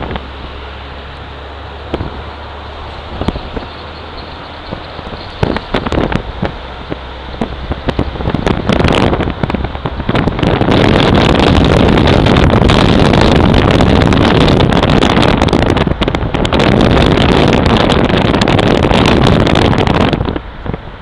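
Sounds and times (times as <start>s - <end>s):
road and traffic noise: 0.0s - 21.0s
wind buffeting microphone: 0.0s - 21.0s.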